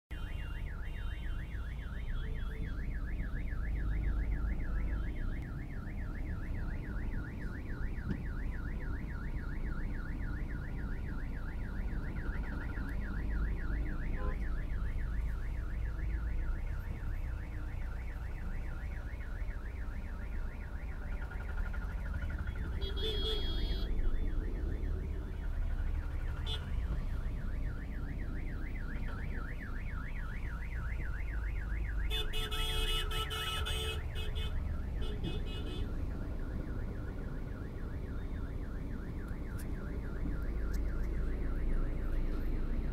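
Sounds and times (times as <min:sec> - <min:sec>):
ambulance siren warbling: 0:00.1 - 0:42.9
traffic rumble: 0:00.1 - 0:42.9.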